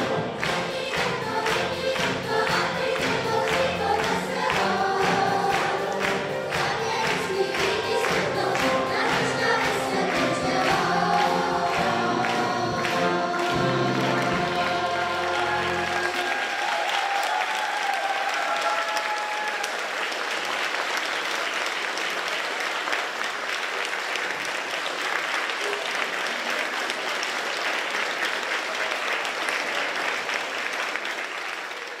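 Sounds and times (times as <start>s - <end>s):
large audience applauding: 0.0s - 32.0s.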